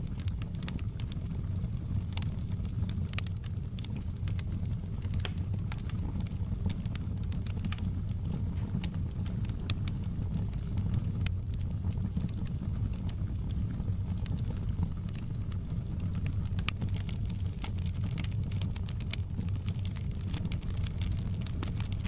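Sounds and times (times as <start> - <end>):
fire popping and snapping: 0.0 - 22.0
fire rumbling: 0.0 - 22.0.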